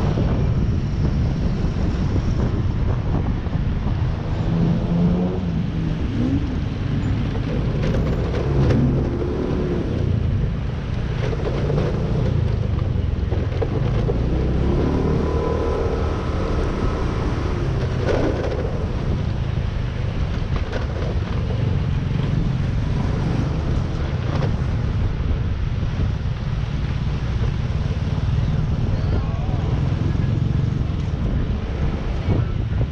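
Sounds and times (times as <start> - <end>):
surrounding traffic: 0.0 - 32.9
wind rush on microphone: 0.0 - 32.9.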